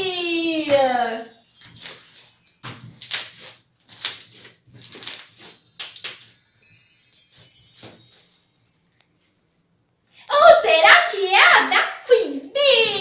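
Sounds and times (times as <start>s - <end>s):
tinkling chimes: 0.0s - 13.0s.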